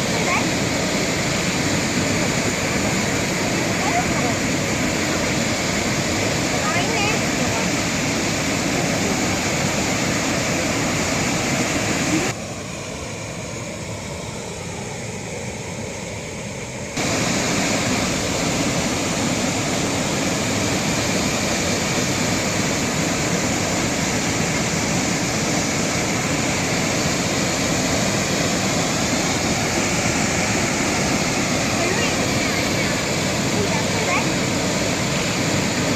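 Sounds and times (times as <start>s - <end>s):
waterfall rushing: 0.0s - 14.1s, 17.0s - 35.9s.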